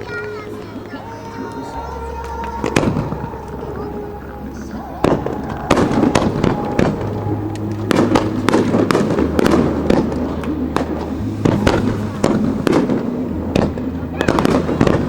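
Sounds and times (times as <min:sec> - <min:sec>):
fireworks bursting: 0:00.0 - 0:15.0
fireworks rumble: 0:00.0 - 0:15.0.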